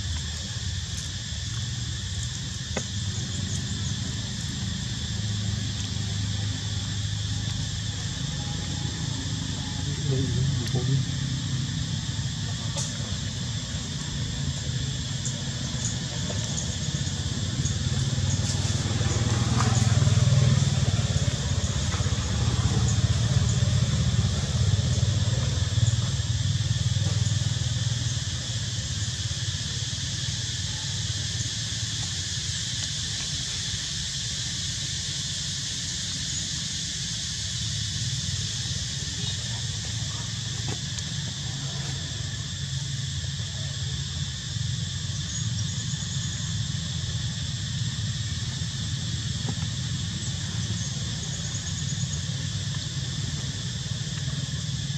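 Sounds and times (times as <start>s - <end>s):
high insect buzz: 0.0s - 54.9s
passing vehicle engine rumble: 0.2s - 54.9s.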